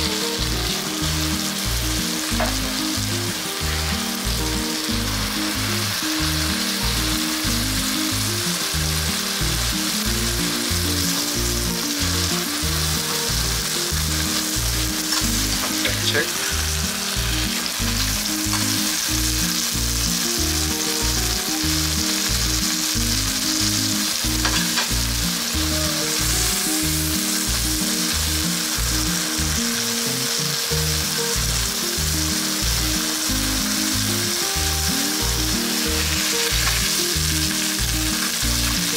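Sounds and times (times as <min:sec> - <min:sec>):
chicken sizzling in pan: 0:00.0 - 0:38.9.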